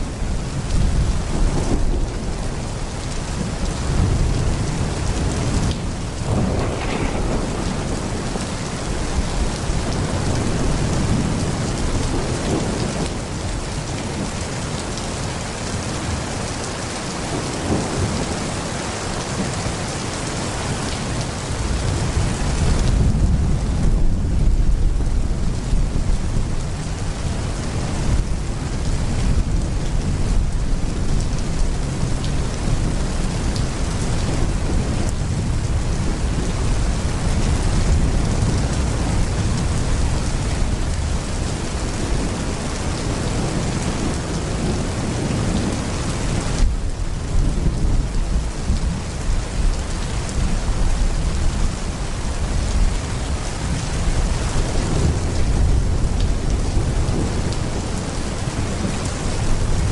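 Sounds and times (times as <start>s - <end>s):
low thunder rumbling: 0.0s - 15.0s, 15.6s - 59.9s
heavy rain pouring: 0.0s - 59.9s.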